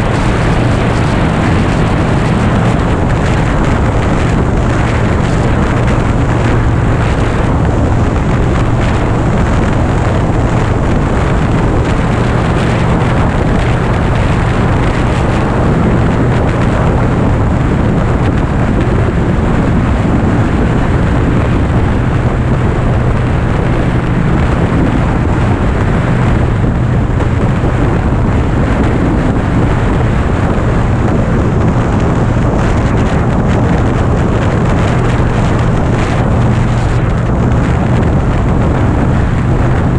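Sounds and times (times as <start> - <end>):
motorcycle engine cruising: 0.0 - 39.9
wind rushing on microphone: 0.0 - 39.9.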